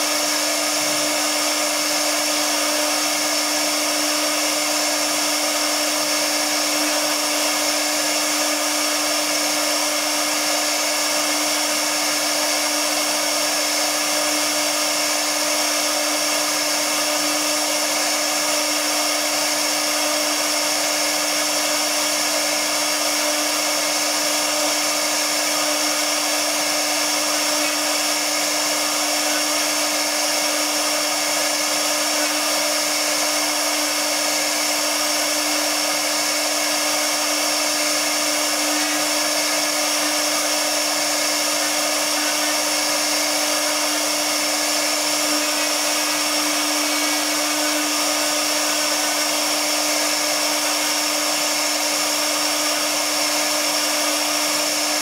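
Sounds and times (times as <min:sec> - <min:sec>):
cnc router spindle whine: 0:00.0 - 0:55.0.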